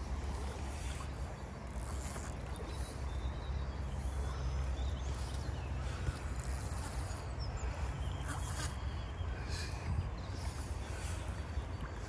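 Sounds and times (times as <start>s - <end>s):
river water sloshing: 0.0s - 12.0s.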